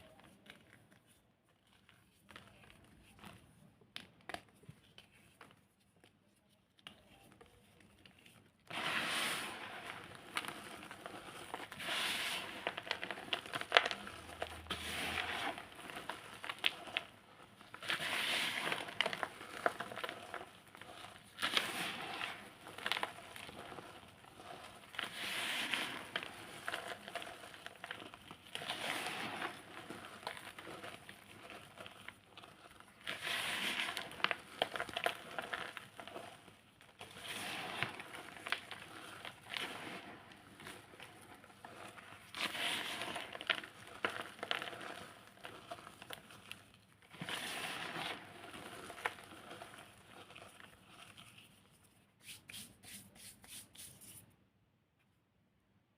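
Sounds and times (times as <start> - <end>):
cornstarch blocks crunching by hand: 6.8 - 54.2.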